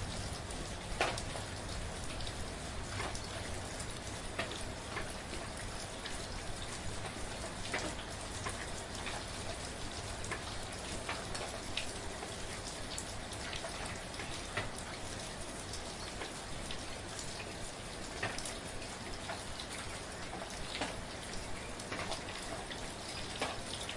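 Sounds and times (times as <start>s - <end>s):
gentle rain falling: 0.0s - 23.9s
raindrops landing close by: 0.0s - 23.9s.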